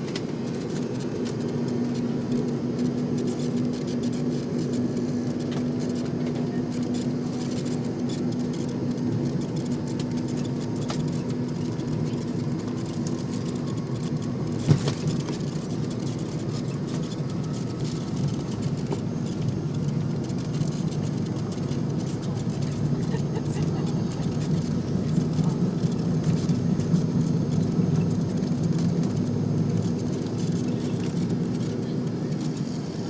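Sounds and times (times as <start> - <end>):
jet engines rumbling at takeoff: 0.0 - 33.0.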